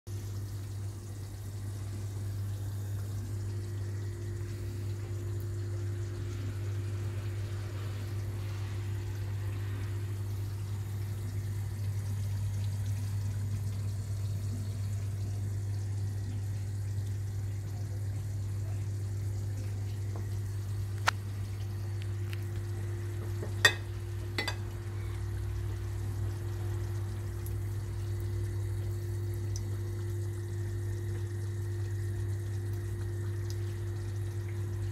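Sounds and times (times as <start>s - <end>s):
kitchen room hum: 0.1s - 34.9s.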